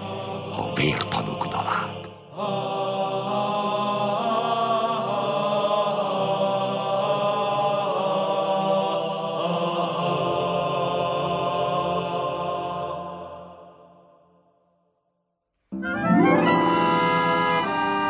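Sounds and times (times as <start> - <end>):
choir chanting: 0.0 - 14.8, 16.0 - 18.0.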